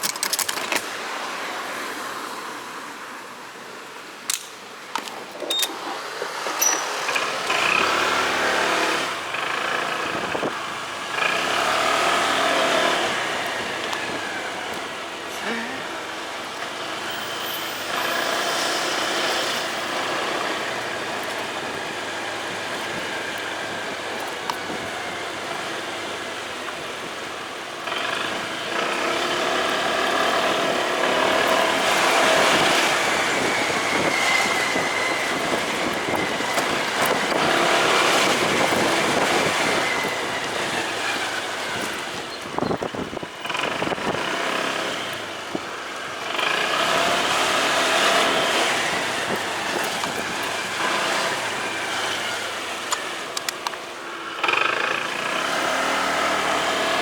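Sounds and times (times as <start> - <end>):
motorcycle engine revving: 5.8 - 17.0, 17.9 - 53.4, 54.2 - 57.0.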